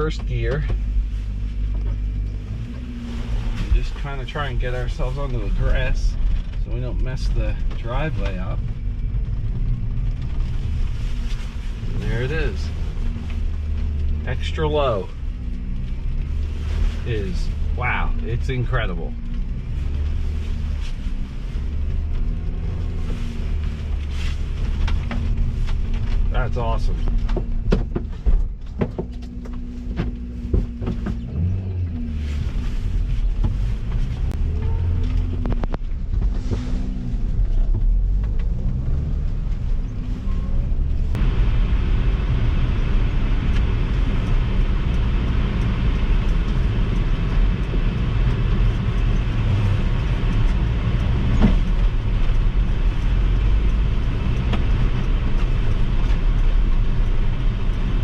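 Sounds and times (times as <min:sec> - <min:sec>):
engine and tyre noise driving: 0:00.0 - 0:58.0
mini truck engine in low gear: 0:01.5 - 0:58.0.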